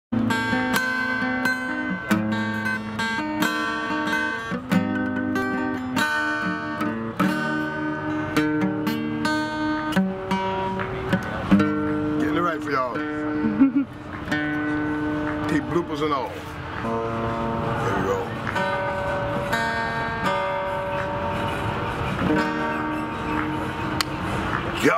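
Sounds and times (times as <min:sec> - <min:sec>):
acoustic guitar strumming: 0:00.1 - 0:24.9.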